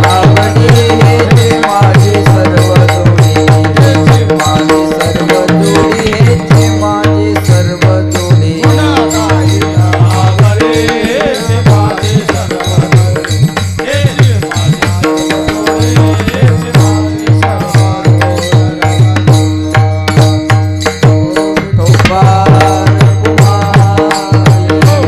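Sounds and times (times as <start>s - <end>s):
hand drum playing: 0.0s - 25.0s.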